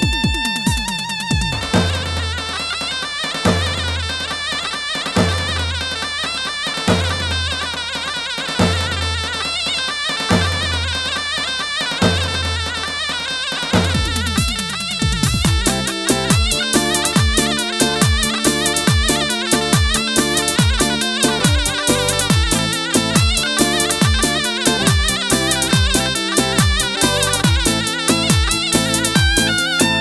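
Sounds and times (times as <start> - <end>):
heavy drum beat: 0.0 - 30.0
reedy wind instrument melody: 0.0 - 30.0.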